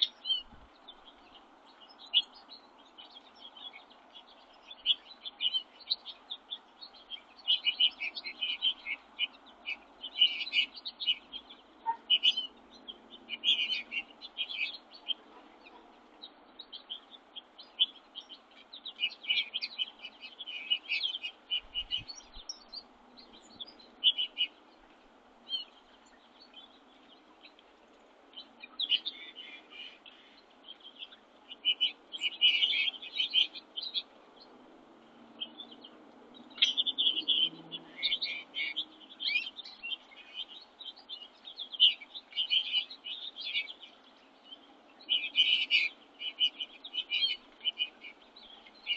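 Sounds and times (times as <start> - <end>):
faint background noise: 0.0 - 48.9
small birds chirping: 0.0 - 48.9.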